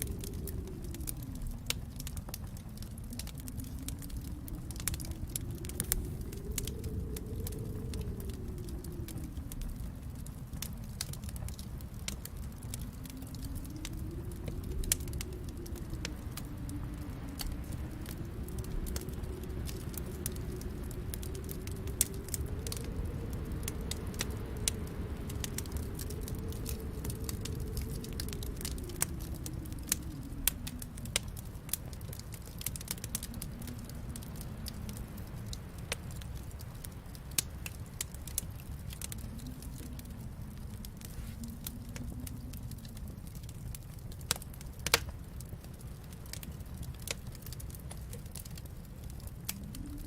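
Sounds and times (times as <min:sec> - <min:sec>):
low fire rumble: 0:00.0 - 0:50.0
wood fire crackling and popping: 0:00.0 - 0:50.0.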